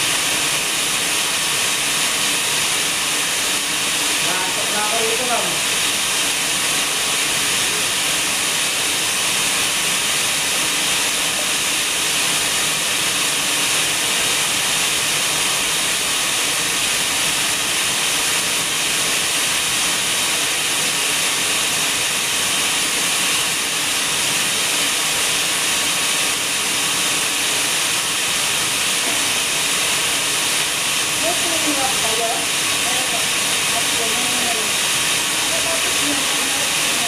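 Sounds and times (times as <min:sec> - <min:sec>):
loud steady hiss: 0:00.0 - 0:37.0.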